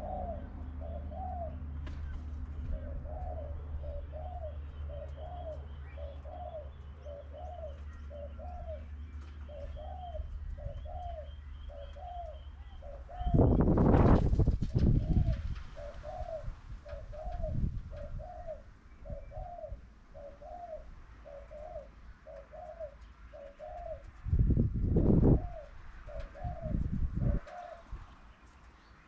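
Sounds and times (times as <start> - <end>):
dove cooing: 0.0 - 24.2, 25.0 - 28.0.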